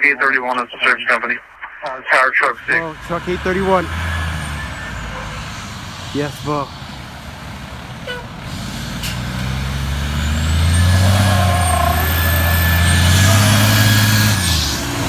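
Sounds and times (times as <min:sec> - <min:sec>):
heavy diesel engine pulling away: 0:02.6 - 0:15.0.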